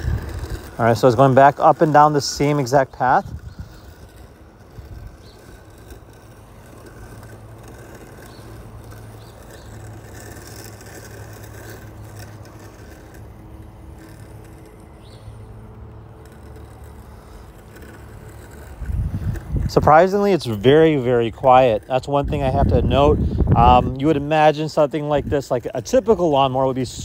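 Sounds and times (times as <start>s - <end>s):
robotic lawn mower humming: 0.0s - 27.0s.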